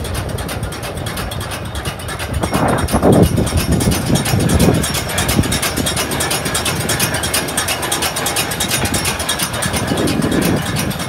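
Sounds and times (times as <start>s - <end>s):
baler clicking rattle: 0.0s - 11.0s.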